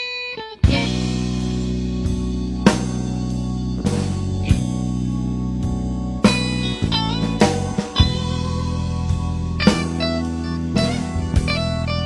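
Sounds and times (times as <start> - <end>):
blues-rock band playing: 0.0 - 12.0
drum kit hits: 0.7 - 12.0.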